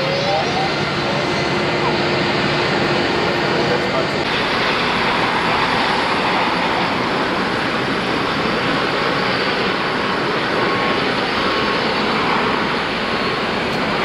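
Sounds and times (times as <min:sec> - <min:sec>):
jet aircraft rushing noise: 0:00.0 - 0:14.0.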